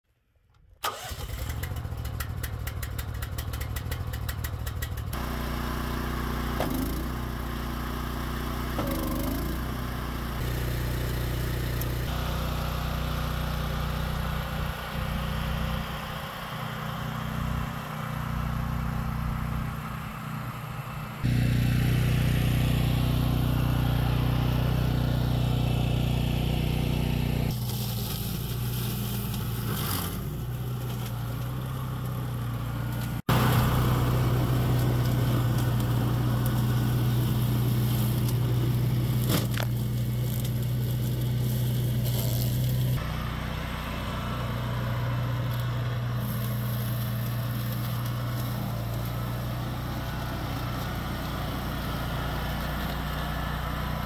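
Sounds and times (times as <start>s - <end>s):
tractor engine starting and running: 0.5s - 54.0s.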